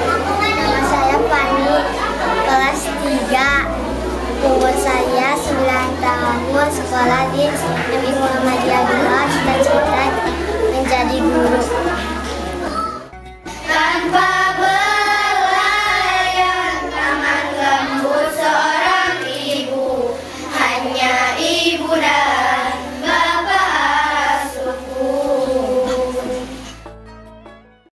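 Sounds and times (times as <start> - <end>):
girls singing together: 0.0 - 26.8.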